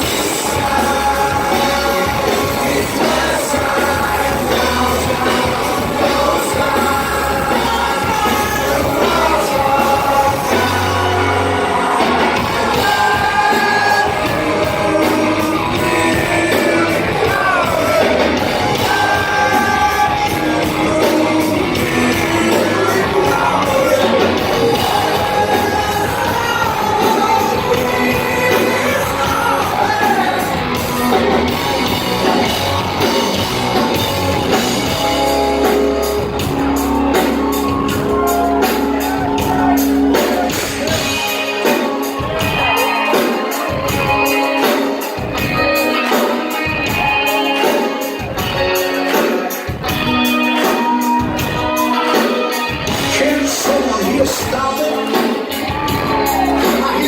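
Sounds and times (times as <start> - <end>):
live rock band playing: 0.0 - 57.0
man singing: 0.0 - 57.0.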